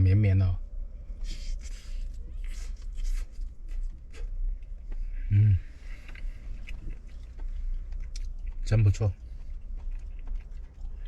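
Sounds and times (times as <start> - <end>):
person chewing food: 1.2 - 11.0.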